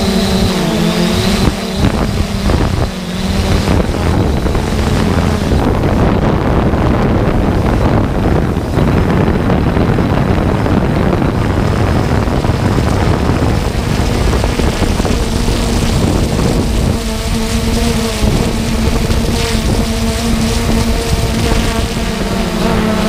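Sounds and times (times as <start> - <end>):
drone propellers rushing: 0.0 - 23.0
wind buffeting microphone: 0.0 - 23.0.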